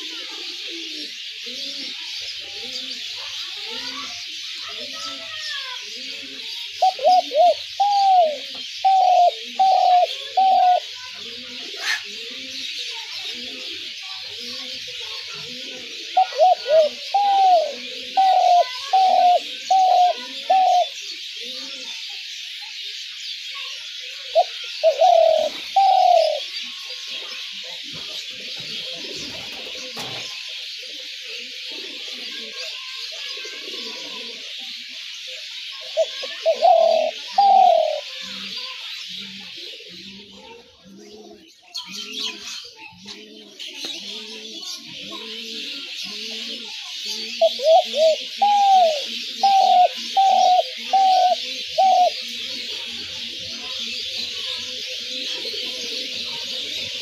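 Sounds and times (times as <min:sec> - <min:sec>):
doves cooing: 0:00.0 - 0:22.1, 0:24.0 - 0:57.0.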